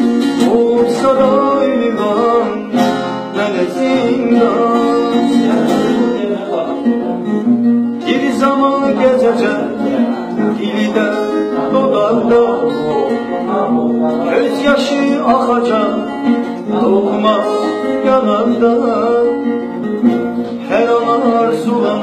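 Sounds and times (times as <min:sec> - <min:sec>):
acoustic guitar strummed and picked: 0:00.0 - 0:22.0.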